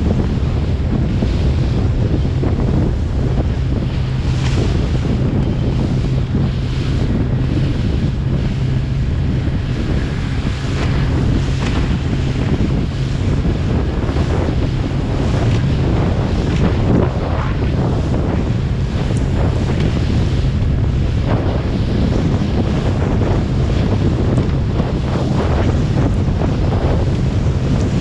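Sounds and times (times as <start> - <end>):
boat engine droning: 0.0 - 28.0
rough sea rushing: 0.0 - 28.0
wind buffeting microphone: 0.0 - 28.0.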